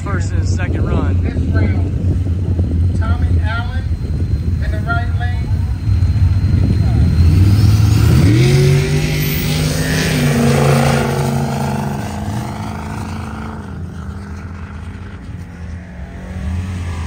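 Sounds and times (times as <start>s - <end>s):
truck engine running at high revs: 0.0s - 17.0s.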